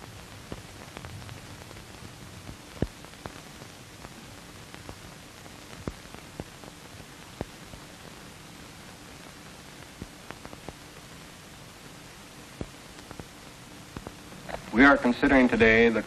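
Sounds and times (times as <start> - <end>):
old film soundtrack hiss: 0.0 - 16.0.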